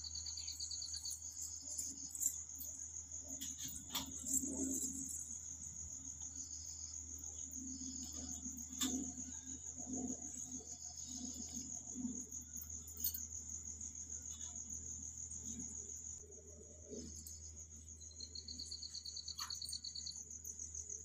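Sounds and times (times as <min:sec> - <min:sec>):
crickets chirping: 0:00.0 - 0:21.0
lower-pitched insect trill: 0:00.0 - 0:21.0.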